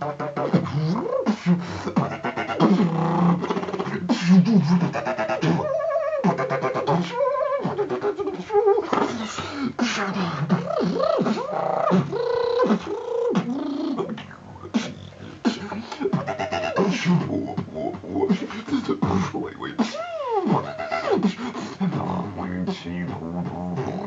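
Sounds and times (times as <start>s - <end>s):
beatboxing: 0.0s - 24.0s.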